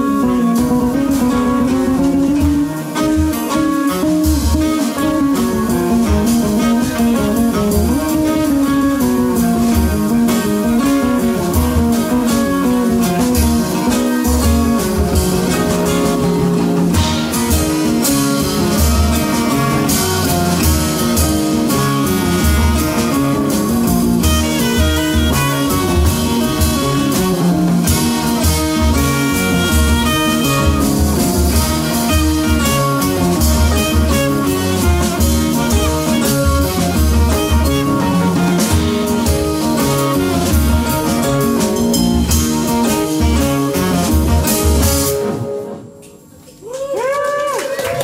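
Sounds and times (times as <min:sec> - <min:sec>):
live jazz band playing: 0:00.0 - 0:46.6.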